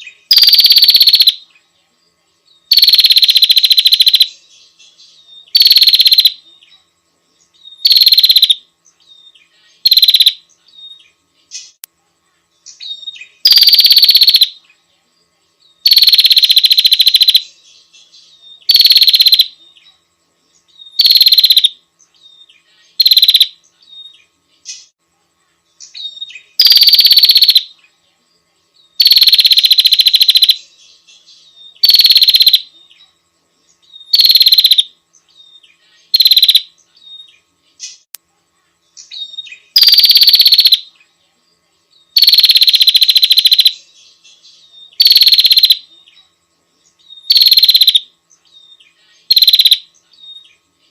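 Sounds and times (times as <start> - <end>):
bird buzzing trill: 0.0 - 1.4, 2.7 - 6.8, 7.4 - 11.8, 12.6 - 14.7, 15.8 - 25.0, 25.7 - 27.9, 28.8 - 38.1, 38.9 - 41.1, 41.9 - 46.2, 46.8 - 50.9.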